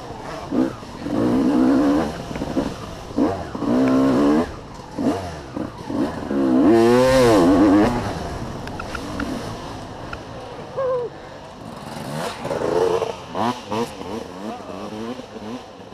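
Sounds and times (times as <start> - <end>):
dirt bike engine revving: 0.0 - 10.7, 11.5 - 15.9.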